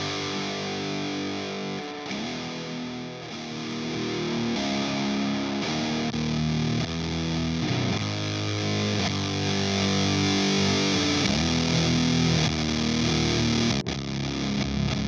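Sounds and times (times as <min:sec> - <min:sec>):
distorted electric guitar riff: 0:00.0 - 0:15.0.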